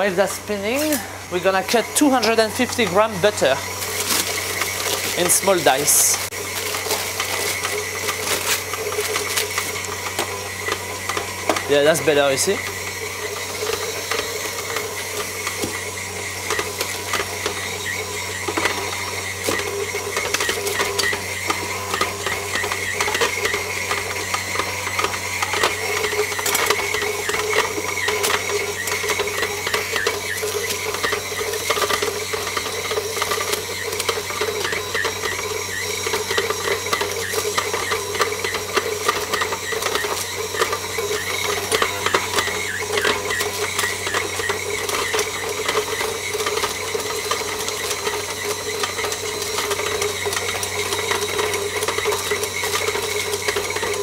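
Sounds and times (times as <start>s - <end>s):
stand mixer whirring: 0.0s - 54.0s.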